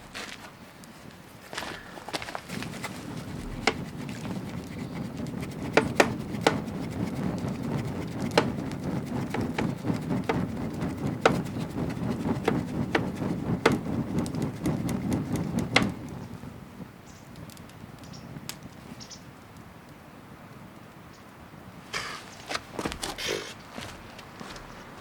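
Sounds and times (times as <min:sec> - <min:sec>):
wood fire crackling and popping: 0:00.1 - 0:21.0
low rush of flame: 0:00.8 - 0:23.2.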